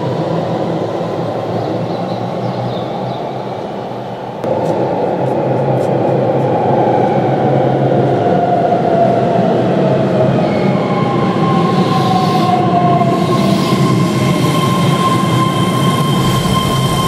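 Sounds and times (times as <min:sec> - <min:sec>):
electric train wheels rumbling: 0:00.0 - 0:17.0.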